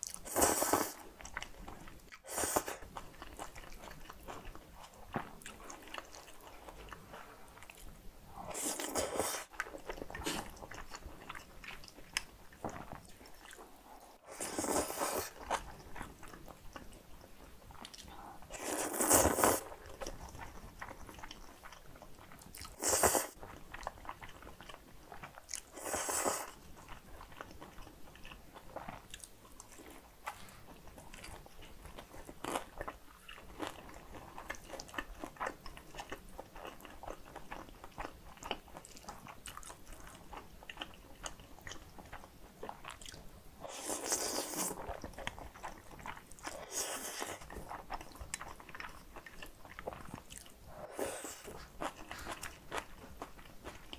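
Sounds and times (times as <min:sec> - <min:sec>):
soft chewing and crunching: 0:00.0 - 0:53.9.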